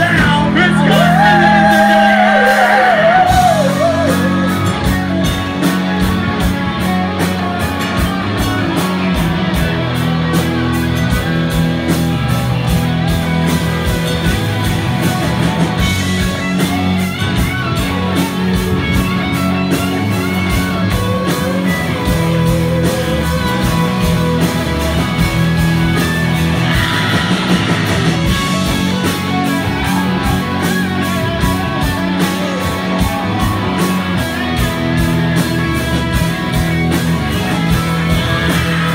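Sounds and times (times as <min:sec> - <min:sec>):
drum beat: 0:00.0 - 0:38.9
electric guitars: 0:00.0 - 0:38.9.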